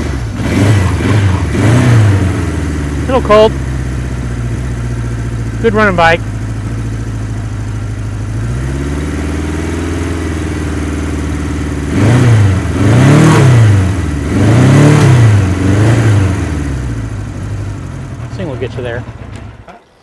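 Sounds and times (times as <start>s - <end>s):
motorcycle engine idling: 0.0s - 12.8s, 15.2s - 20.0s
motorcycle engine revving: 0.0s - 19.8s.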